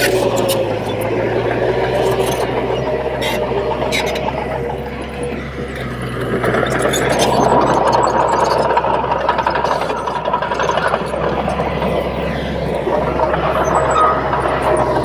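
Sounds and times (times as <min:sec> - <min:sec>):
bulldozer diesel engine rumbling: 0:00.0 - 0:15.0.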